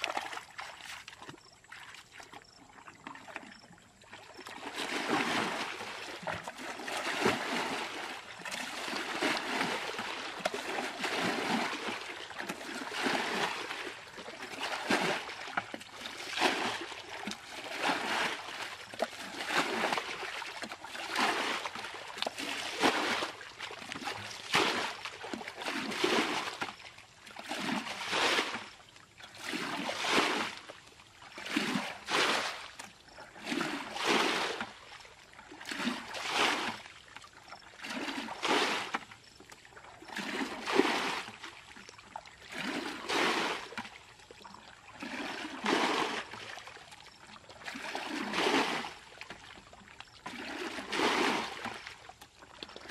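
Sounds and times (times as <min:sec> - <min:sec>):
water bailed with basin splashing: 0:00.0 - 0:52.9.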